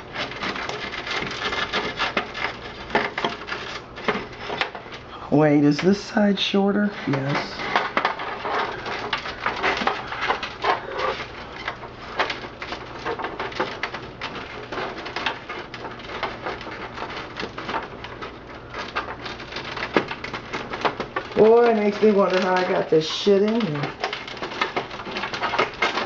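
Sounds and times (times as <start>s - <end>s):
cables and plastic connectors handled: 0.0s - 26.0s.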